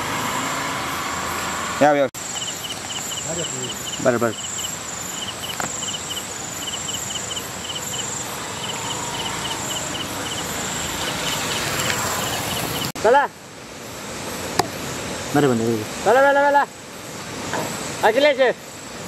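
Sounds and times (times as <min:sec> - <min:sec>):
crickets chirping: 0:00.1 - 0:19.0
steady high insect trill: 0:00.9 - 0:14.5, 0:15.2 - 0:19.0.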